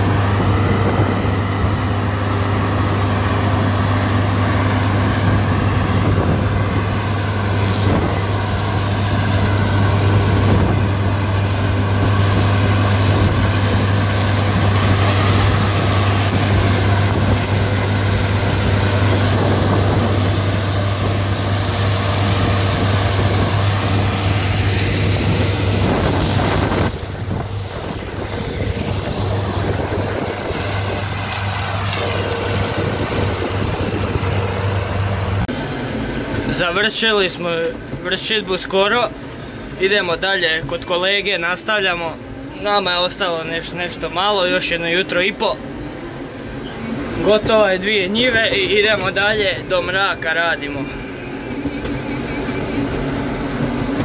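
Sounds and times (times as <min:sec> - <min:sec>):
farm engine humming: 0:00.0 - 0:54.0
rushing noise: 0:00.0 - 0:54.0.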